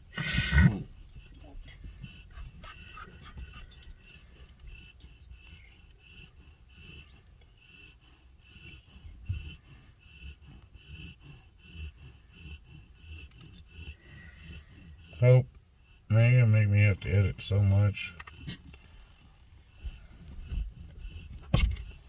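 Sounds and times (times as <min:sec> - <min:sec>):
dog panting: 0:00.0 - 0:22.0.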